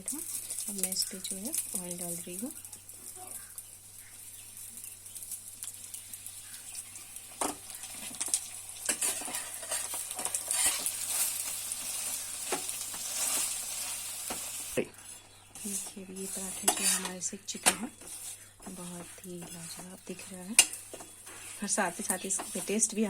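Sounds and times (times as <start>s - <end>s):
oil sizzling and crackling: 0.0s - 23.0s.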